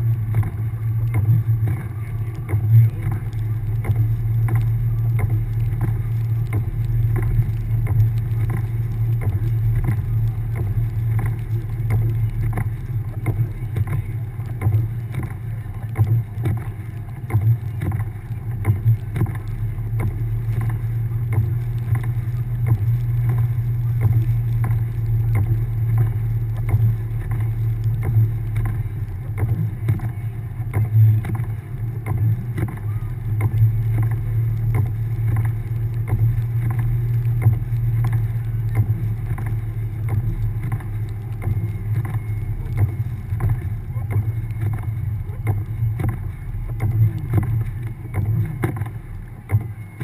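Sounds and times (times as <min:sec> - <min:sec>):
car engine droning: 0:00.0 - 0:50.0
small ticks and knocks: 0:00.0 - 0:50.0.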